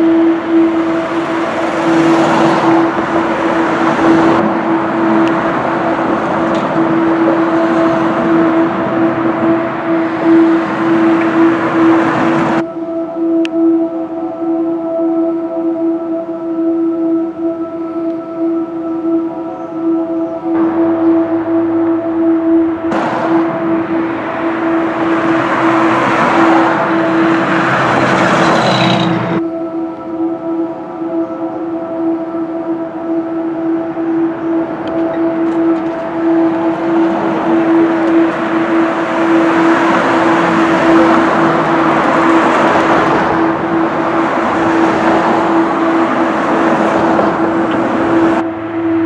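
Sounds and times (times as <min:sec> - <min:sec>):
held drone tone: 0:00.0 - 0:49.0
rushing noise: 0:00.0 - 0:49.0.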